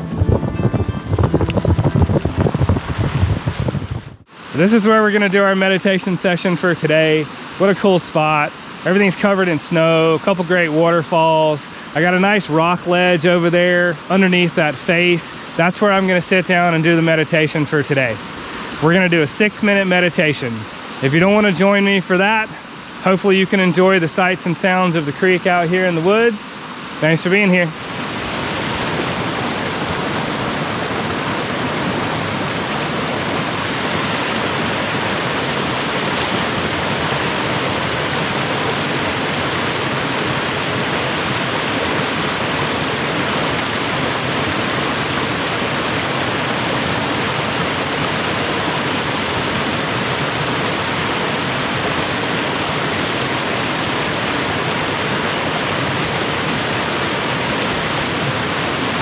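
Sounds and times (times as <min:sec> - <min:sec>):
creek and waterfalls rushing: 0:00.0 - 0:59.0.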